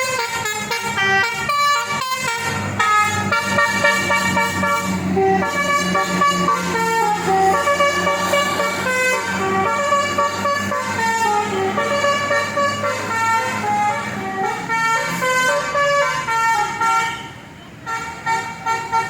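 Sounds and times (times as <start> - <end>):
multi-tone musical air horn: 0.0 - 19.0
low engine hum: 0.9 - 16.6.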